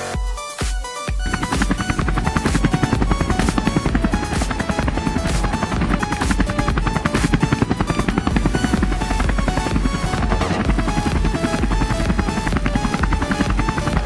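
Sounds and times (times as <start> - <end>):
electronic music with pulsing beat: 0.0 - 14.0.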